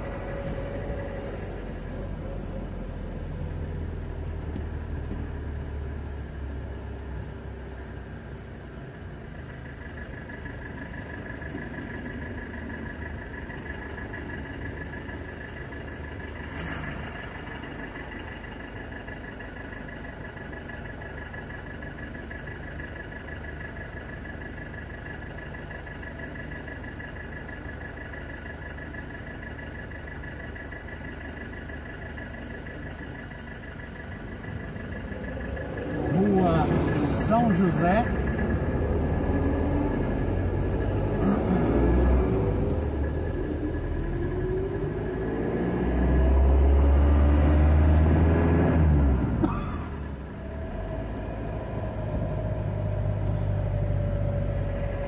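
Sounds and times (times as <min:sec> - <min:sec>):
bus running alongside: 0:00.0 - 0:55.0
car engine rumble: 0:00.0 - 0:55.0.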